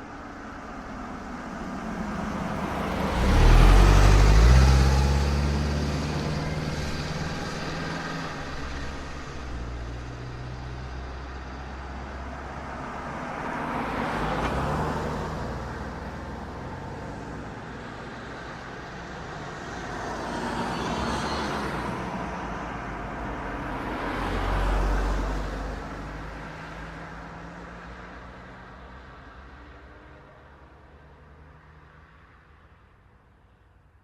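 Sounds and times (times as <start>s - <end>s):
cars passing on asphalt: 0.0s - 34.0s.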